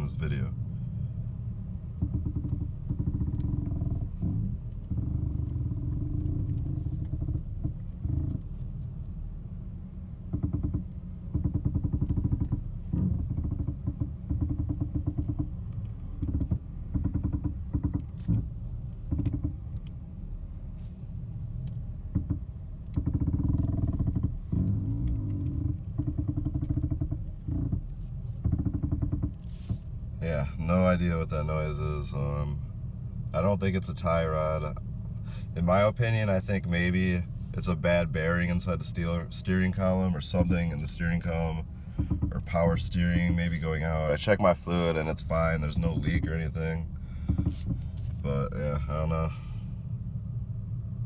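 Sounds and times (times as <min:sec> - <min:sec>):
car engine running: 0:00.0 - 0:51.0
car steering noise: 0:01.8 - 0:09.2, 0:10.0 - 0:32.6, 0:33.4 - 0:50.8.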